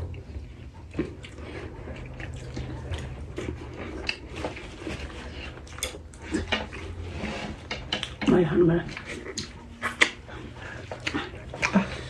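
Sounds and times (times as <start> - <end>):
low steady hum: 0.0 - 12.0
wet chewing and squishing: 0.0 - 12.0.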